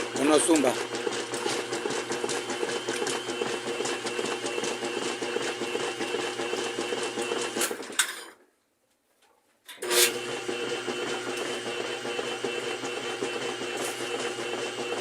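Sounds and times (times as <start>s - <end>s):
washing machine motor hum: 0.0s - 8.0s, 9.8s - 15.0s.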